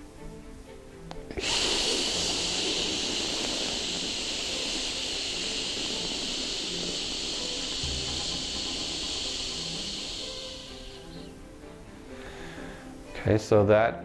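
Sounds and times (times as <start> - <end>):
soft background music: 0.0 - 14.0
person exhaling breathy hiss: 1.2 - 13.0.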